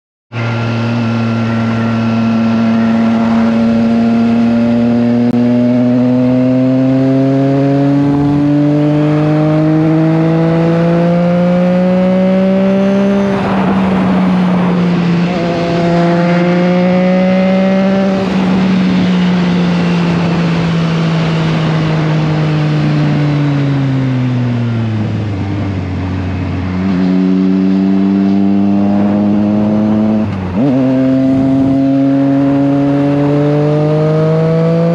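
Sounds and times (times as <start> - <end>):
motorcycle engine revving: 0.3 - 34.9.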